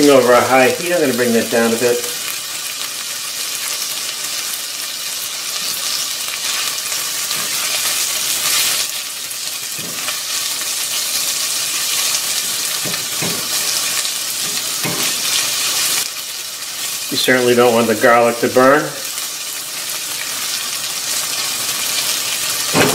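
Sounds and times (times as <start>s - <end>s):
vegetables sizzling in oil: 0.0s - 22.9s.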